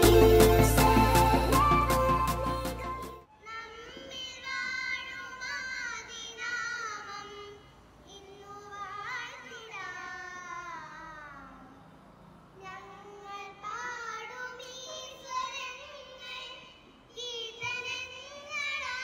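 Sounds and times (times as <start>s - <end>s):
young girls singing together: 0.0s - 11.6s, 12.6s - 19.0s.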